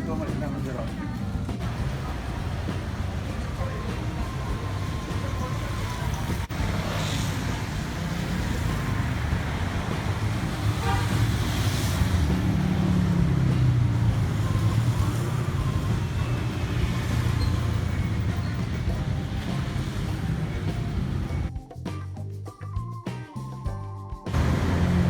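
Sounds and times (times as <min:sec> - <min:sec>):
road traffic rumbling: 0:00.0 - 0:21.5, 0:24.3 - 0:25.0.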